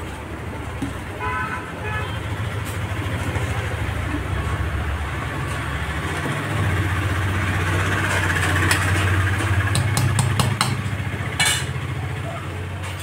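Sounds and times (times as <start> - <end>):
street noise hiss: 0.0 - 13.0
vehicle engine idling: 2.3 - 13.0.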